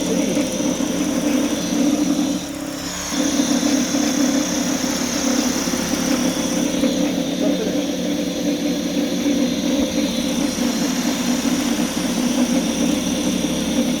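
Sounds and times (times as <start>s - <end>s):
electric scooter motor humming: 0.0s - 14.0s.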